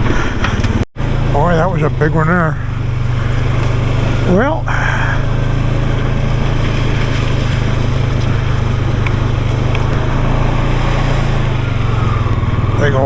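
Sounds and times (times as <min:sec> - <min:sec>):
atv engine droning: 0:00.0 - 0:13.0.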